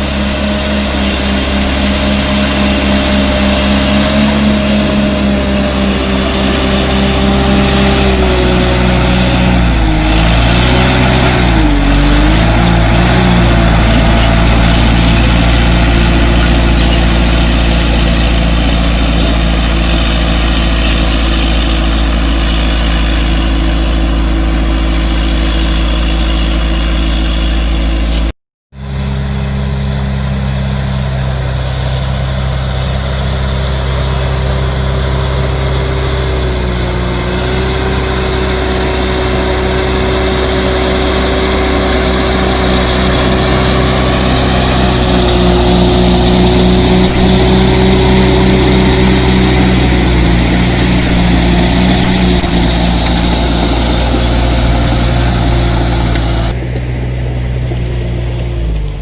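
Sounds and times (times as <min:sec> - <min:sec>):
heavy machine diesel engine: 0:00.0 - 0:59.0.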